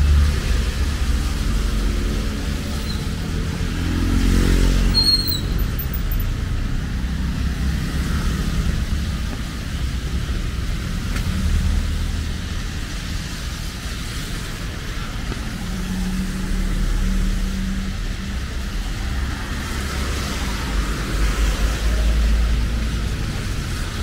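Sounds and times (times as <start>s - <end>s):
road noise hiss: 0.0s - 24.0s
vehicle engines running: 0.0s - 24.0s.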